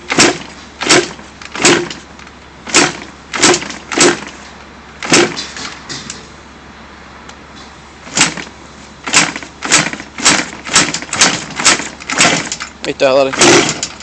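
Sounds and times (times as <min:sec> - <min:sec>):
engine backfire bangs: 0:00.0 - 0:06.3, 0:08.0 - 0:14.0.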